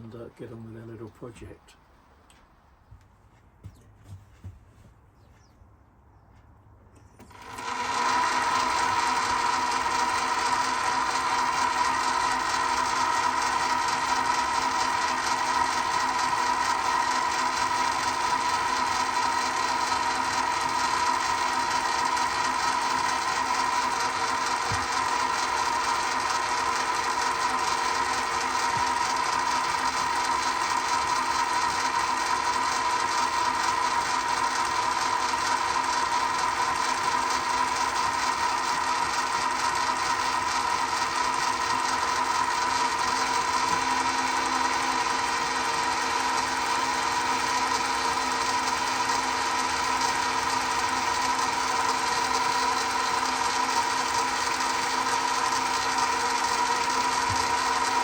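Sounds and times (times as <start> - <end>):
lathe drive whine: 7.2 - 58.0
metal lathe running: 7.2 - 58.0.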